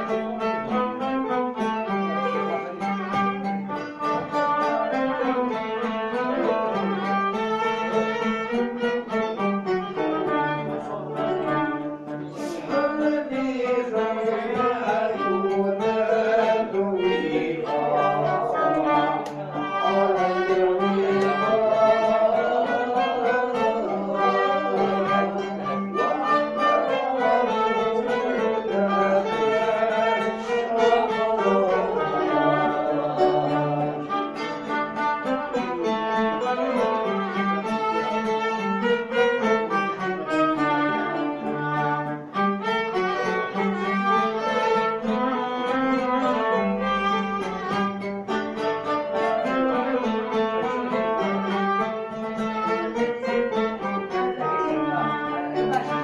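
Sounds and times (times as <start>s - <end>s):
violin-led string ensemble: 0.0s - 56.0s.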